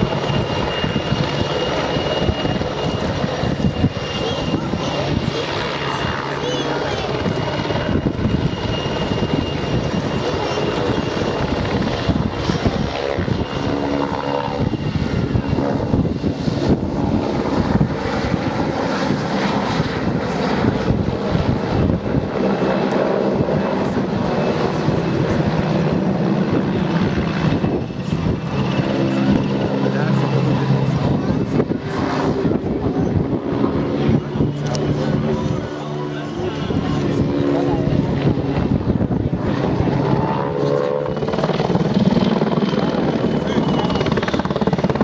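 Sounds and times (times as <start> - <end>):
helicopter rotor chopping: 0.0 - 45.0
turbine engine whine: 0.0 - 45.0.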